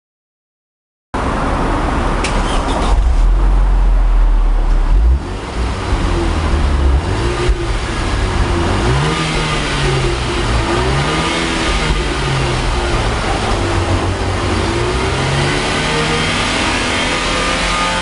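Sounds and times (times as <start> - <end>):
car engine revving: 1.3 - 18.0.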